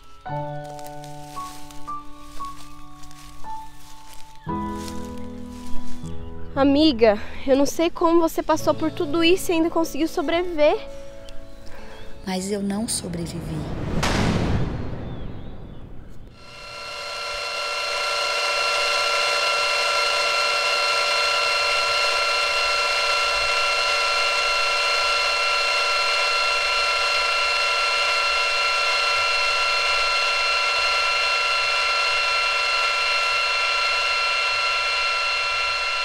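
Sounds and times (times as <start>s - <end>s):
eerie high ringing drone: 0.0s - 13.4s, 14.9s - 36.0s.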